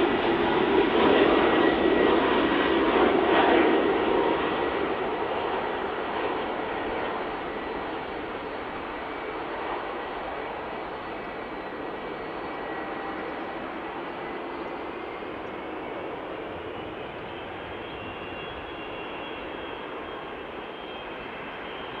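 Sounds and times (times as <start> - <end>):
airplane engines rushing: 0.0 - 22.0.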